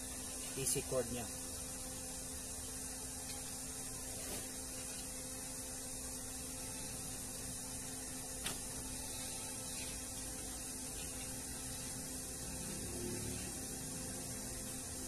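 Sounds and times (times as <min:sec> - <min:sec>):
constant hiss: 0:00.0 - 0:15.0
electrical hum: 0:00.0 - 0:15.0.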